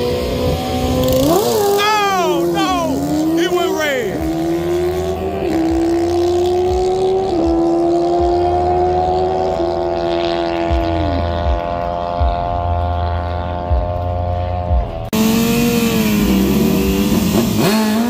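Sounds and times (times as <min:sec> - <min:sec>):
racing motorcycle engine: 0:00.0 - 0:18.0.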